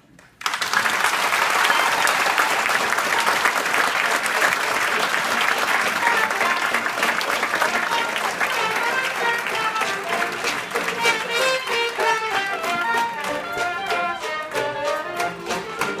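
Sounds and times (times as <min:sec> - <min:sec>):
audience applauding: 0:00.2 - 0:16.0.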